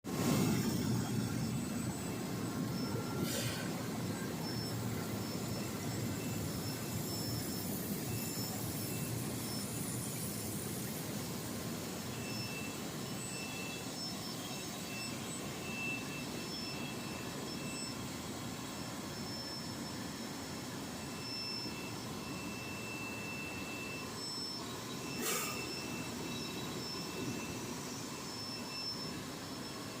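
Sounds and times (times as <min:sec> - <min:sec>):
faint high whine: 0:00.1 - 0:30.0
washing machine running: 0:00.1 - 0:30.0.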